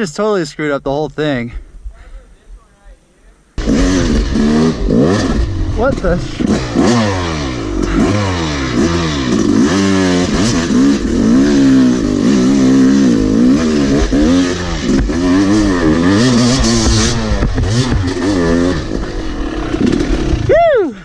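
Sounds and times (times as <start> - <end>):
dirt bike engine revving: 3.6 - 20.8.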